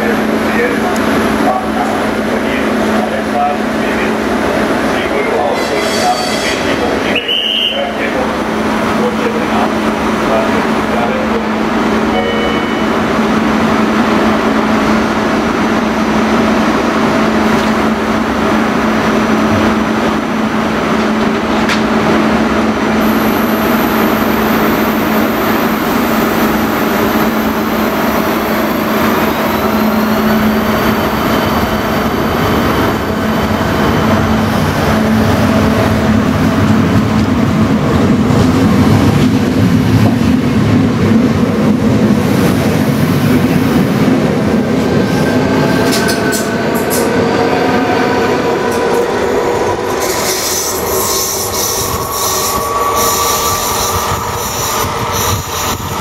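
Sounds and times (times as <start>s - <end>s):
train running noise: 0.0s - 56.0s.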